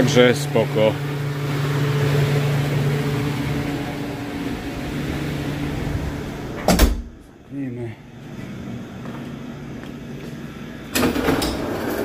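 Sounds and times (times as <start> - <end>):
refrigeration machinery humming: 0.0 - 12.0.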